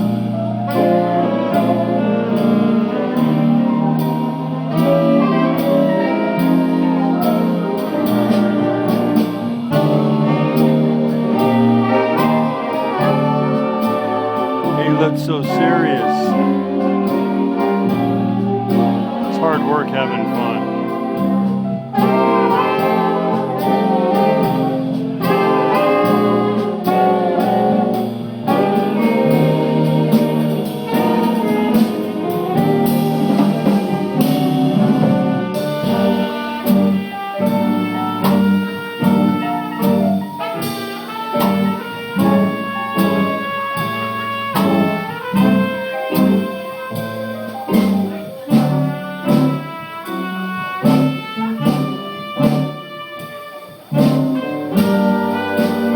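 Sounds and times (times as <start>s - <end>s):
big band jazz: 0.0s - 55.9s.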